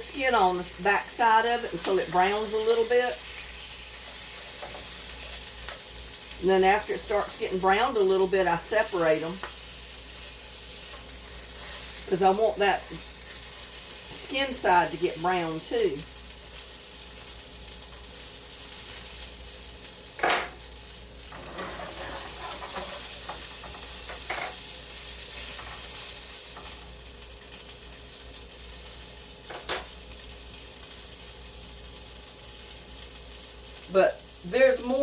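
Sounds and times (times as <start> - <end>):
sausage sizzling in a pan: 0.0 - 35.0.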